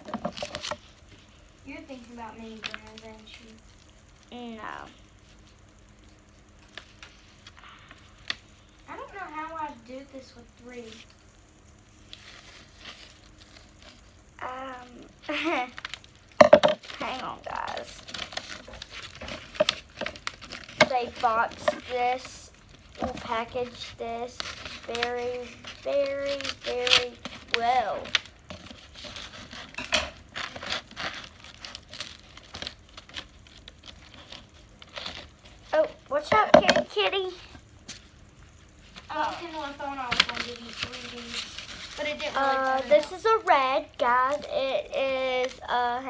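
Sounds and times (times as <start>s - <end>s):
plastic packaging crinkling: 0.0s - 11.2s, 15.2s - 46.0s.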